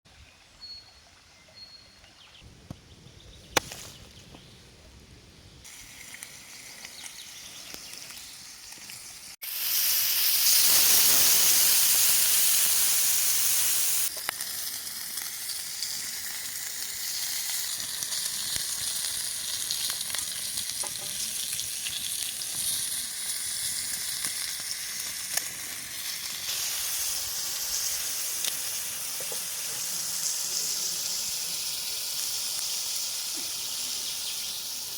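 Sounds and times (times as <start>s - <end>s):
fire crackles: 2.4s - 34.9s
food sizzling over campfire: 3.5s - 34.9s.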